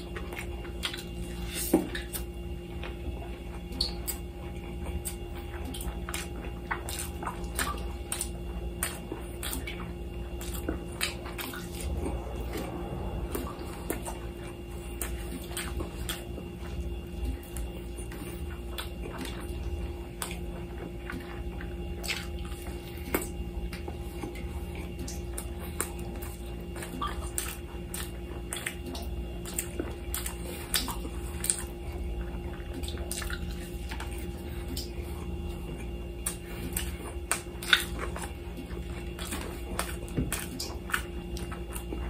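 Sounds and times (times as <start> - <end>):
chewing and lip smacks: 0.0 - 42.0
steady low hum: 0.0 - 42.0.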